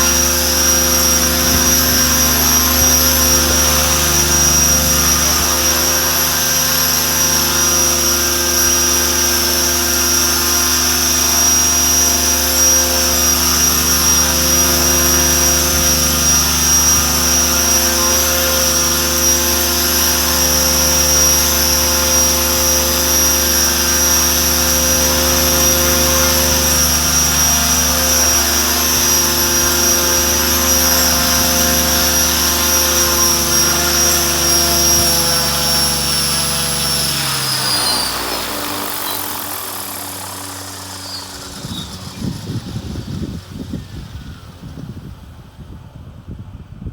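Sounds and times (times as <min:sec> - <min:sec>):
rc helicopter motor whine: 0:00.0 - 0:46.9
rotor blades buzzing: 0:00.0 - 0:46.9.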